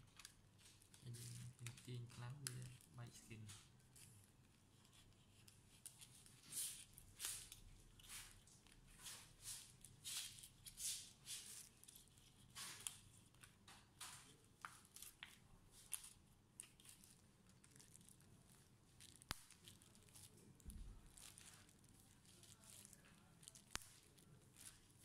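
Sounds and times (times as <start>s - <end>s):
plastic card scratching plastic: 0.0s - 20.4s, 21.0s - 25.0s.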